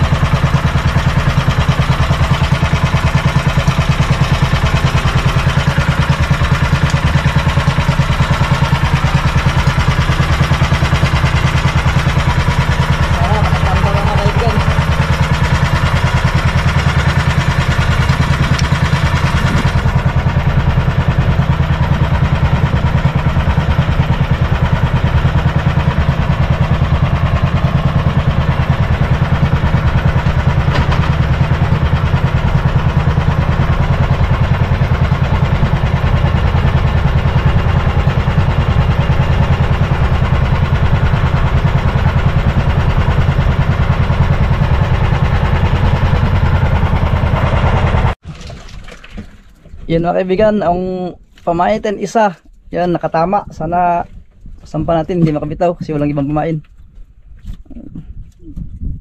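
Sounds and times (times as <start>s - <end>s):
boat engine droning: 0.0s - 48.2s.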